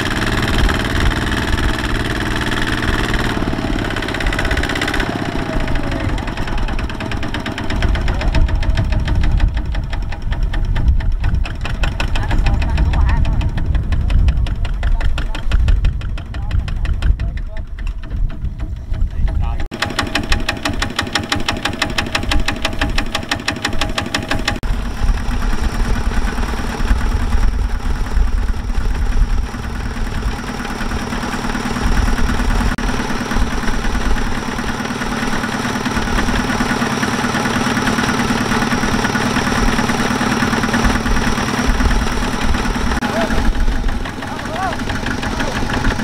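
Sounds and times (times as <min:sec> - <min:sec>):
diesel engine knocking: 0:00.0 - 0:46.0.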